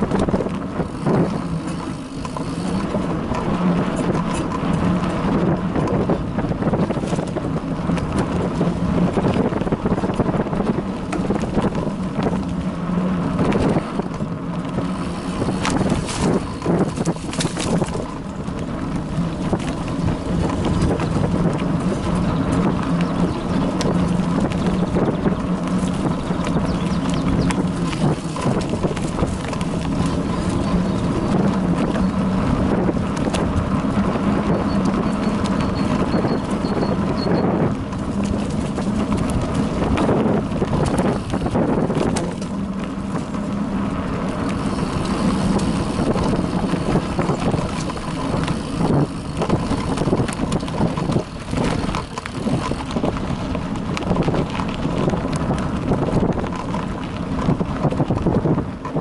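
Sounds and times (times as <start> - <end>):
bicycle rattling over bumps: 0.0 - 59.0
tyre noise: 0.0 - 59.0.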